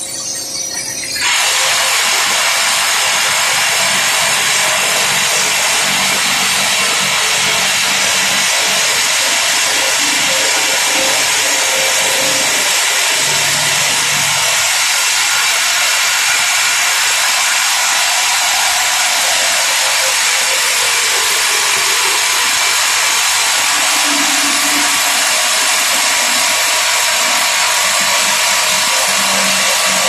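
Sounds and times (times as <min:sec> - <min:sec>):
rock drill hissing din: 0:01.2 - 0:30.0.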